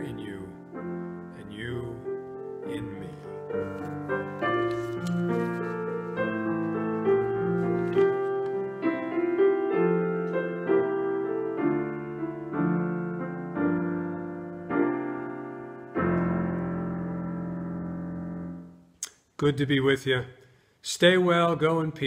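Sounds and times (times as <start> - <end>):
slow piano chords: 0.0 - 18.9.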